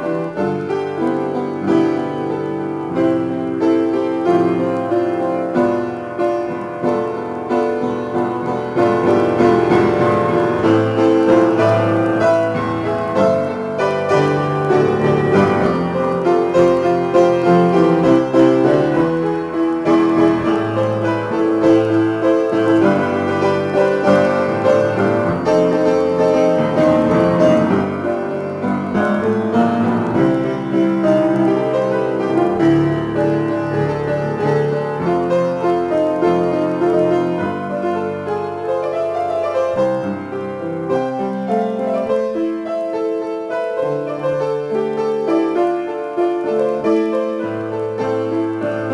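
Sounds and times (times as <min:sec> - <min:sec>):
piano playing: 0:00.0 - 0:48.9.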